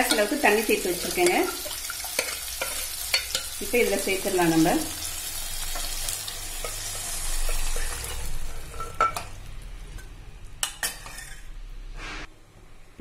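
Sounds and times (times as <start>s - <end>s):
spatula stirring and scraping pan: 0.0s - 4.2s, 5.2s - 12.3s
lentils sizzling in a hot pan: 0.0s - 12.2s.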